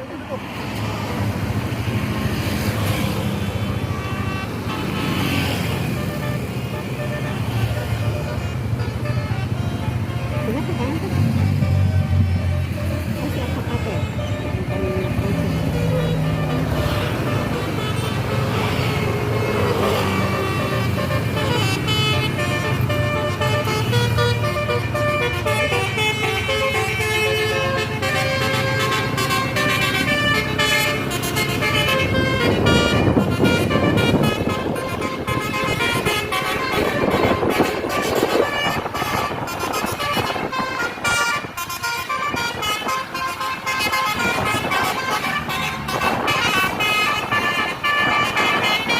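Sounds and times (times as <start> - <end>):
bus engine rumble: 0.0 - 48.9
bus horn playing a tune: 0.0 - 48.9.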